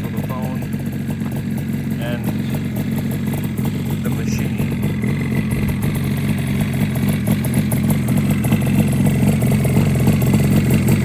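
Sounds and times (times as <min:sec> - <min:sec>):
two-stroke motorcycle idling: 0:00.0 - 0:11.0.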